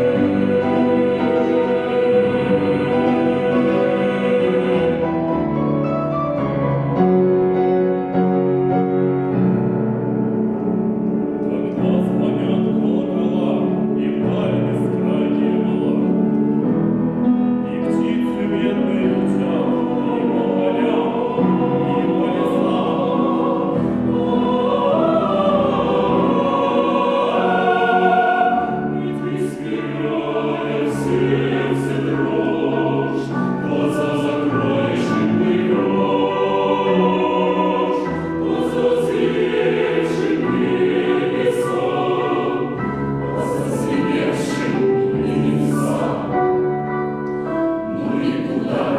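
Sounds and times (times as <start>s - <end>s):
chamber choir singing: 0.0s - 48.9s.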